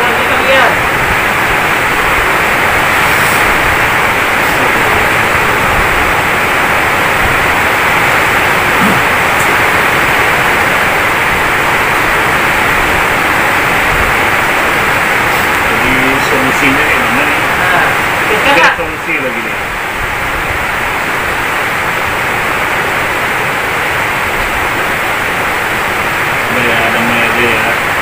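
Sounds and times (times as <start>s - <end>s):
loud steady static hiss: 0.0s - 28.0s.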